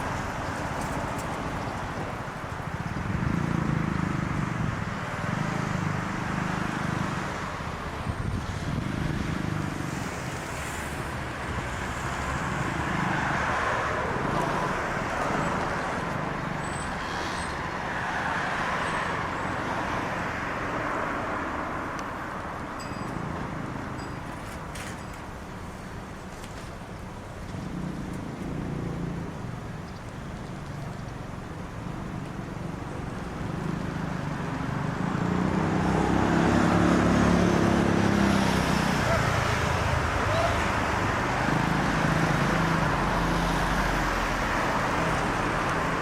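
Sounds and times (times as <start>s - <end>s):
cars passing on road: 0.0s - 46.0s.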